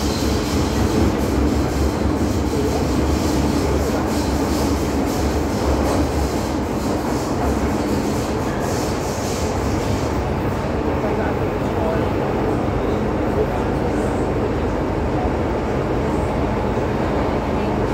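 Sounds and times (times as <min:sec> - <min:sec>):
train wheels rumbling on rail: 0:00.0 - 0:17.9.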